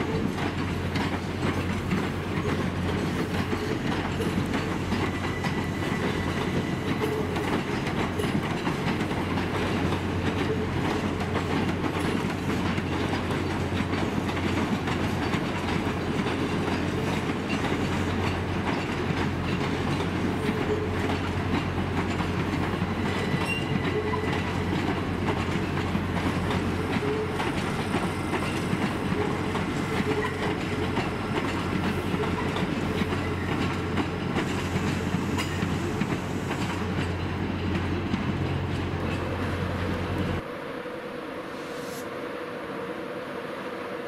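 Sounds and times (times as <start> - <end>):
wheels clicking over rail joints: 0.0 - 40.4
electric train running past: 0.0 - 44.0.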